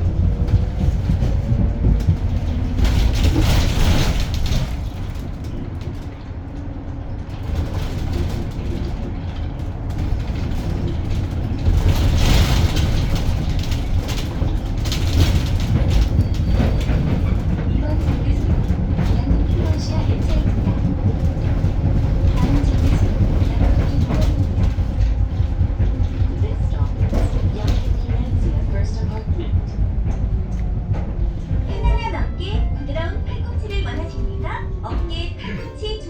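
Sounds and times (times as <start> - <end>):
road and tyre rumble inside bus: 0.0 - 36.0.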